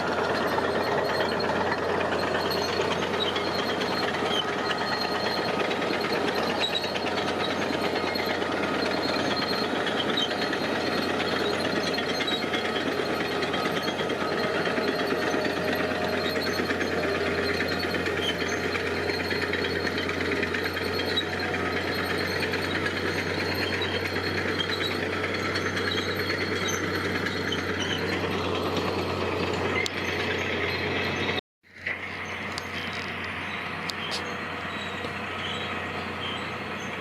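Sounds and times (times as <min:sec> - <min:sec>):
diesel machinery engine hum: 0:00.0 - 0:37.0
fast mechanical rattle: 0:00.0 - 0:37.0.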